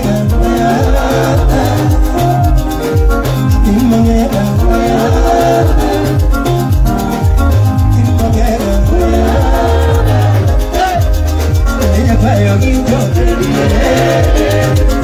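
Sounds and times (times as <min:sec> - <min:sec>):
live band playing dance music: 0:00.0 - 0:15.0.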